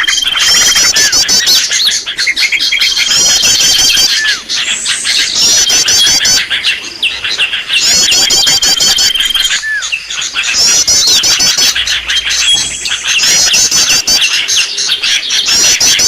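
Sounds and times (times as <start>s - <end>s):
held bird whistle: 0.0s - 6.5s, 7.8s - 14.8s
small songbirds chirping and trilling: 0.0s - 16.0s.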